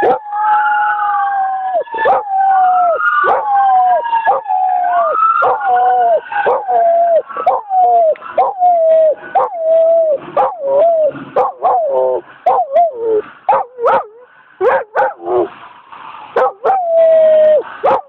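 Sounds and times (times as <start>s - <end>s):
dog howling: 0.0s - 15.5s, 16.4s - 18.0s
siren wailing: 0.0s - 18.0s.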